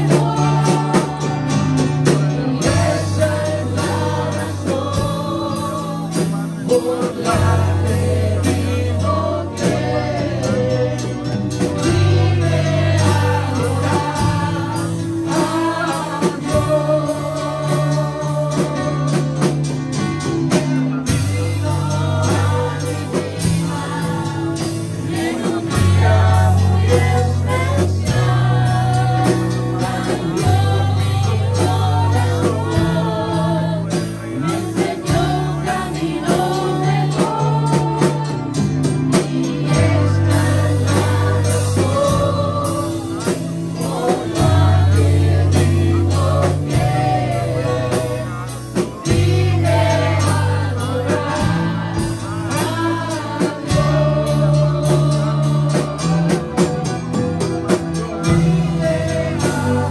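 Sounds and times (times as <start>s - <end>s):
women singing: 0.0s - 19.6s, 20.5s - 56.8s, 57.7s - 59.9s
gospel band playing: 0.0s - 59.9s.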